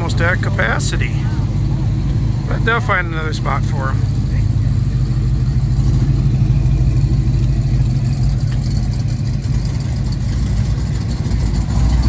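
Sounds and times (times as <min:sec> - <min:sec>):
car engine running at low speed: 0:00.0 - 0:12.0.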